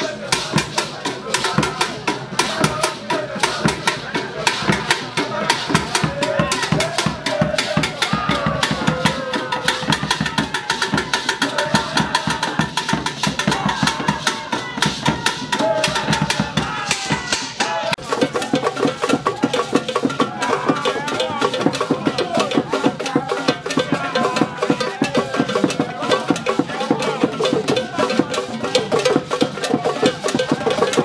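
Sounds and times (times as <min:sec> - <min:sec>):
drums struck with sticks: 0:00.0 - 0:31.0
voices singing: 0:00.0 - 0:31.0.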